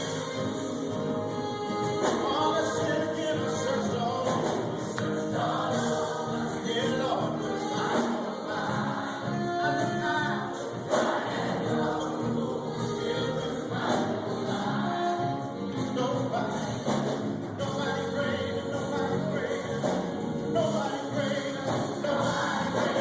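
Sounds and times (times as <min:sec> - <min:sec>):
choir singing gospel song: 0:00.0 - 0:23.0.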